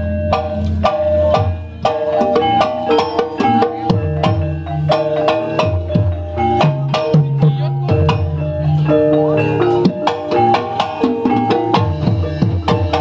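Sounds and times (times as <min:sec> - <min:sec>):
low drum beat: 0:00.0 - 0:13.0
tuned struck percussion melody: 0:00.0 - 0:13.0.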